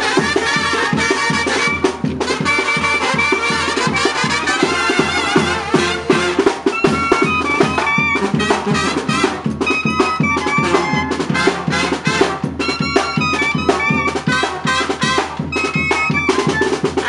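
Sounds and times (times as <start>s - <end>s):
quick steady drumbeat: 0.0s - 17.0s
trumpets holding notes: 0.0s - 17.0s.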